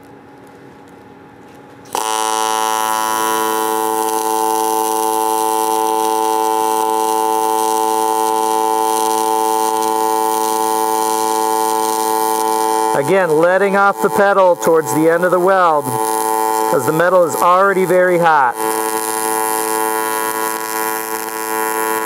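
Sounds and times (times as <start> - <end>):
welding arc buzzing: 1.6 - 22.0.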